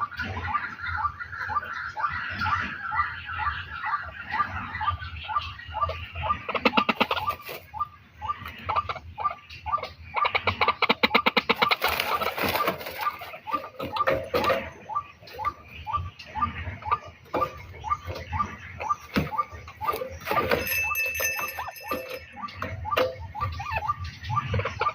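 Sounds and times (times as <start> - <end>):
bird calling rapidly: 0.0 - 24.9.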